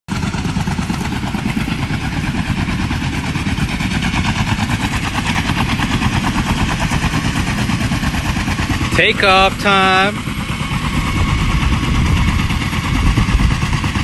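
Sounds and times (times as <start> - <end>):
helicopter rotor beating: 0.1 - 14.0.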